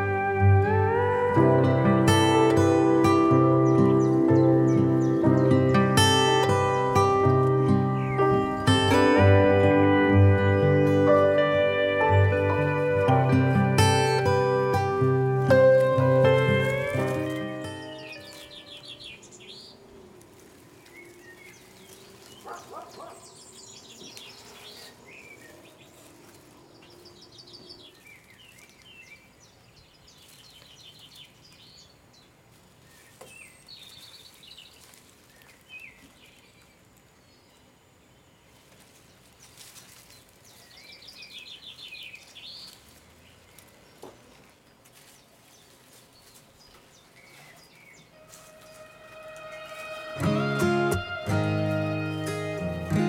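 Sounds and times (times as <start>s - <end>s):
songbirds singing faintly: 0.0s - 53.0s.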